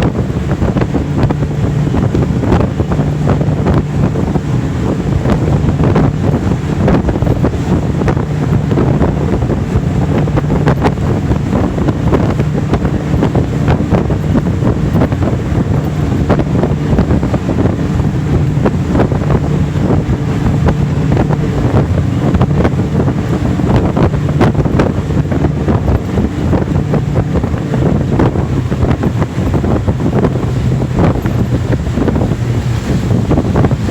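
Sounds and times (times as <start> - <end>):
outboard motors running: 0.0 - 33.9
water splashing against hull: 0.0 - 33.9
wind noise on microphone: 0.0 - 33.9.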